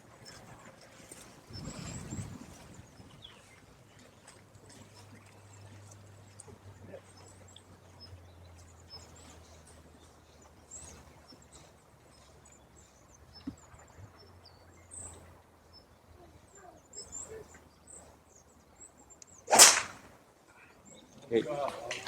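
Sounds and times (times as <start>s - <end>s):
birds chirping faintly: 0.0s - 21.7s.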